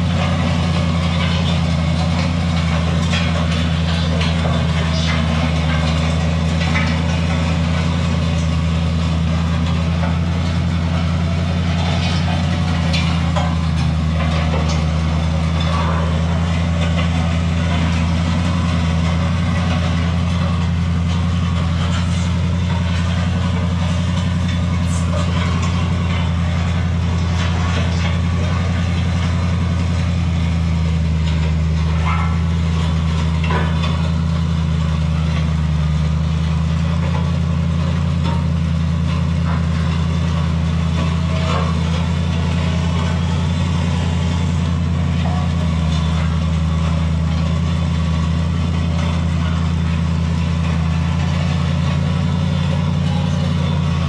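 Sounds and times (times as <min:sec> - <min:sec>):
gravel crunching: 0:00.0 - 0:54.0
metal scraping along road: 0:00.0 - 0:54.0
truck engine running: 0:00.0 - 0:54.0.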